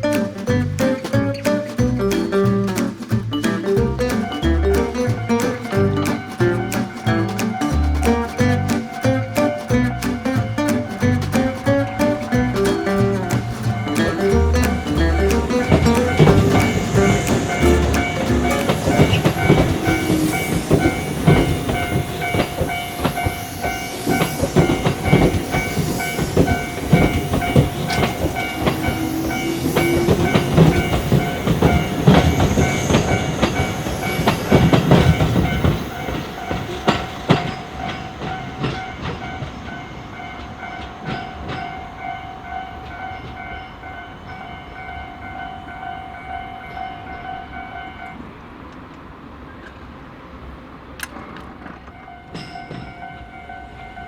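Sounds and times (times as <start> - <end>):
level crossing bell clanging: 0.0 - 48.3, 51.9 - 54.0
train wheels clattering: 0.0 - 49.9, 50.9 - 54.0.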